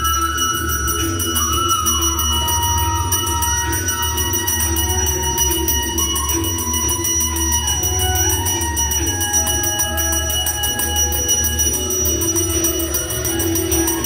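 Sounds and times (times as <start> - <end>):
bells ringing: 0.0 - 14.0
devotional music: 0.0 - 14.0.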